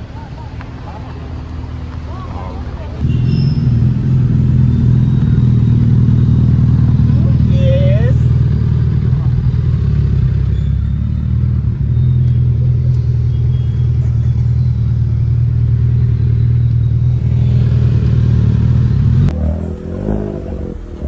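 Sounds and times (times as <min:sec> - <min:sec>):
vehicle engine idling: 0:00.0 - 0:19.3.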